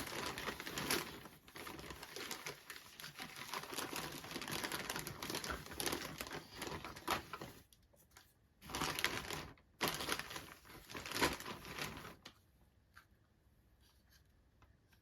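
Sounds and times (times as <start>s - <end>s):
plastic and cardboard crinkling: 0.0s - 13.0s.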